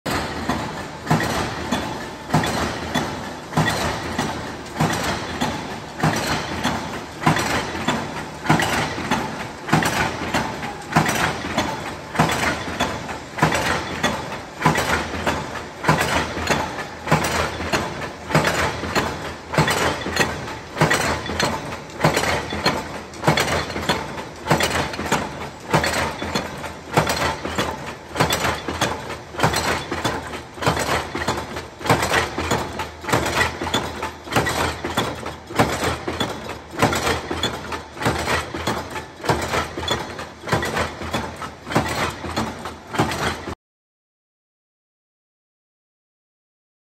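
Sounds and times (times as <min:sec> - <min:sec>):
heavy machine clanking: 0:00.1 - 0:43.6.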